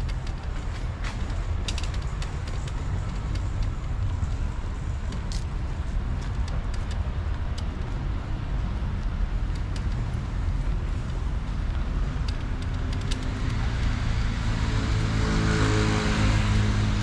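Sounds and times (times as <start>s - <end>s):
rumble of passing cars: 0.0s - 17.0s.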